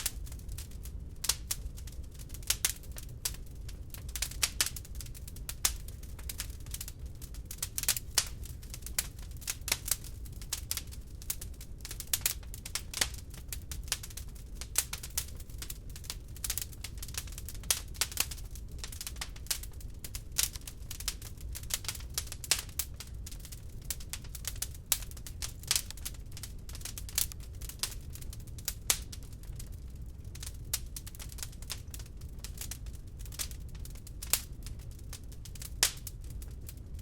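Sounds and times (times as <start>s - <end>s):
wood log fire crackling: 0.0s - 37.0s.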